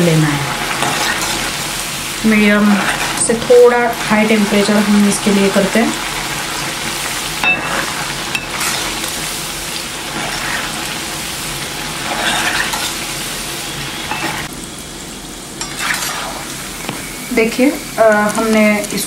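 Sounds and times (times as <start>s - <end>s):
oil sizzling and bubbling: 0.0s - 19.0s
skimmer stirring in oil: 0.5s - 14.5s, 15.6s - 17.1s.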